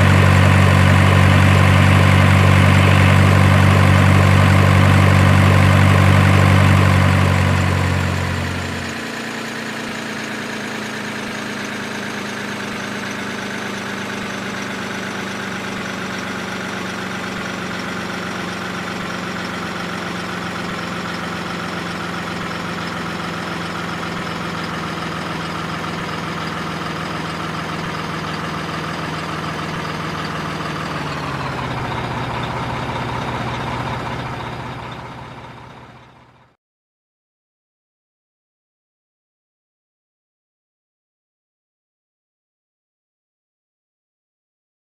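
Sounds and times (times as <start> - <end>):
truck engine idling: 0.0 - 36.5.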